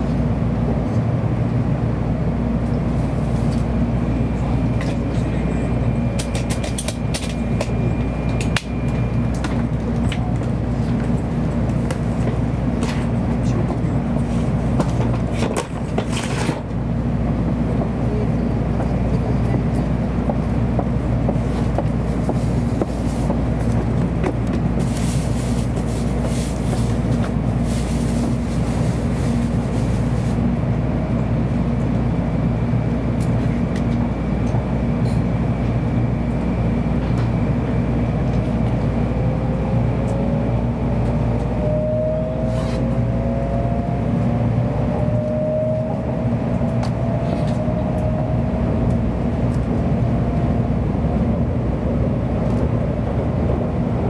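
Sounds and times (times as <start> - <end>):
rising train whine: 0.0 - 54.0
train cabin rumble and hum: 0.0 - 54.0.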